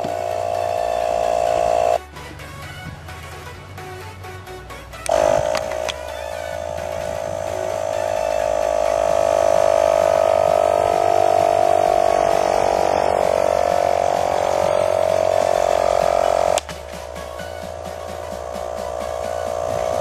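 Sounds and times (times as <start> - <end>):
small compressor buzzing: 0.0 - 2.0, 5.0 - 20.0.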